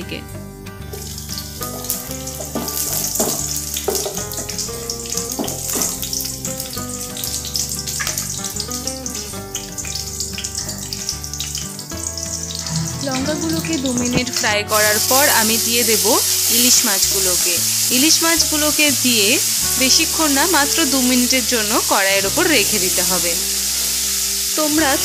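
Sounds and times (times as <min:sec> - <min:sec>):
background music with bass: 0:00.0 - 0:25.0
chillies sizzling in hot oil: 0:00.0 - 0:25.0.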